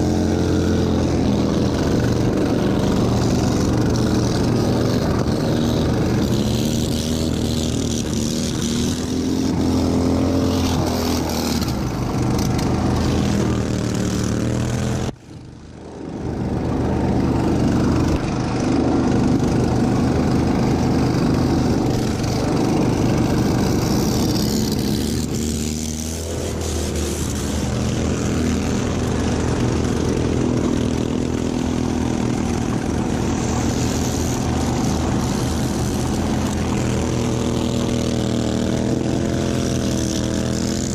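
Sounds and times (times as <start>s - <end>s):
lawn mower engine revving: 0.0s - 40.9s.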